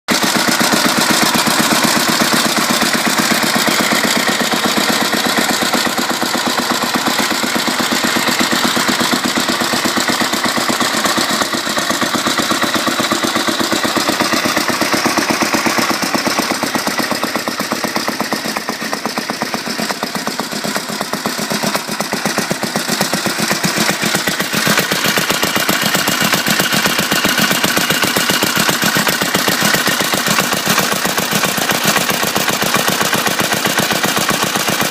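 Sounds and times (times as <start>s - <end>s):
stationary petrol engine running: 0.1s - 34.9s.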